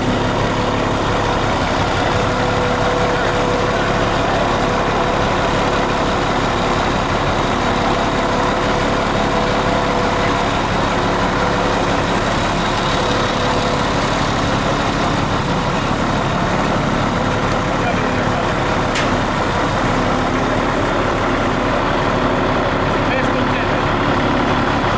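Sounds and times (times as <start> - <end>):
heavy engine running: 0.0 - 24.9.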